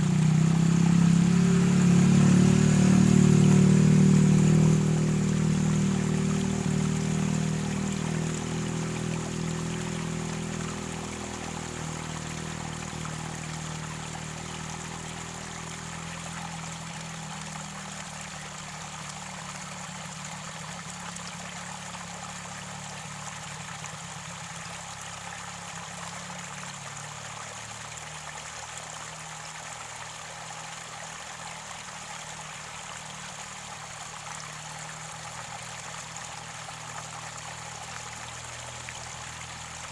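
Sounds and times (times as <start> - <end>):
low engine hum: 0.0 - 39.9
river water gurgling: 0.0 - 39.9.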